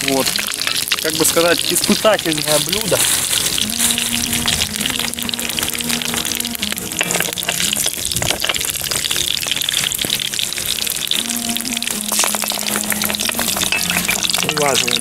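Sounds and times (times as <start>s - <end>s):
background music: 0.0s - 15.0s
stones sizzling in a hot pan: 0.0s - 15.0s.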